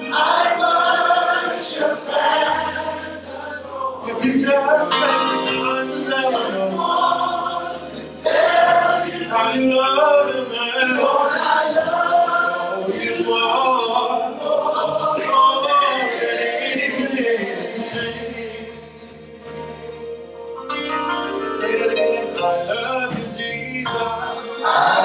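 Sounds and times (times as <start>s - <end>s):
choir singing gospel song: 0.0s - 25.0s
instrumental accompaniment: 0.0s - 25.0s.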